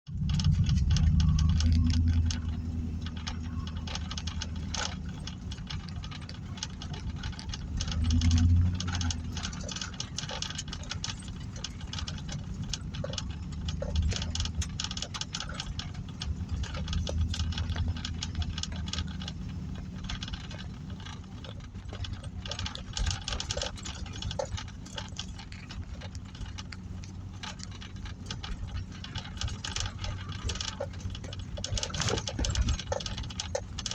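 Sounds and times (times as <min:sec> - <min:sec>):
low rumbles: 0:00.1 - 0:33.9.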